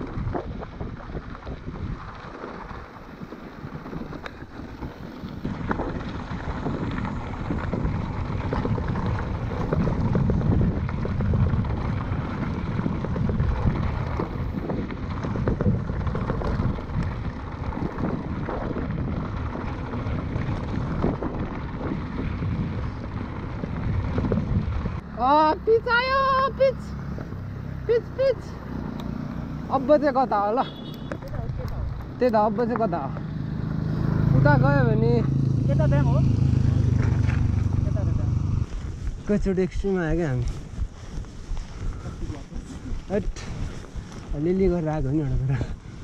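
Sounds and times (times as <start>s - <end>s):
bike rattling and clicking: 0.0s - 46.0s
wind buffeting microphone: 0.0s - 46.0s.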